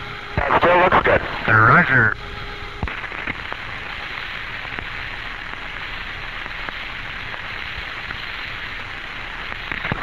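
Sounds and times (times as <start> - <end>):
recording hiss and static: 0.0 - 10.0.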